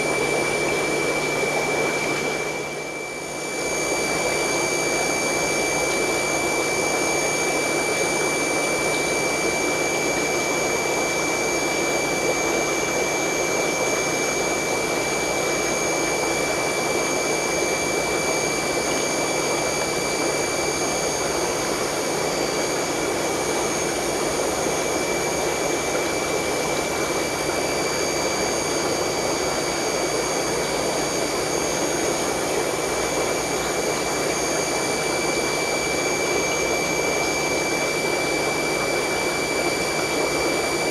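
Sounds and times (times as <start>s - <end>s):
aquarium equipment humming: 0.0s - 40.9s
high-pitched whines: 0.0s - 40.9s.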